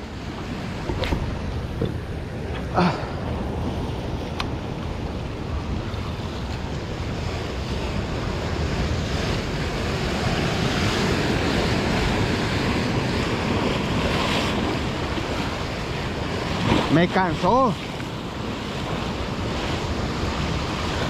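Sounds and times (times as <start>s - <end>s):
ocean surf washing ashore: 0.0s - 21.0s
wind on microphone: 0.0s - 21.0s.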